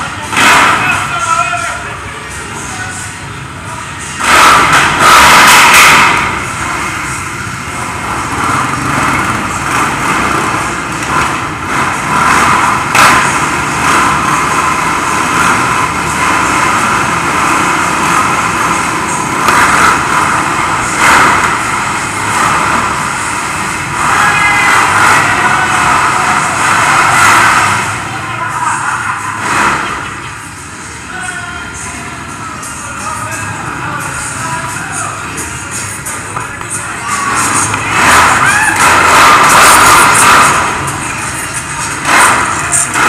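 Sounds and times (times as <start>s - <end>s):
quad engines revving: 0.0s - 43.0s.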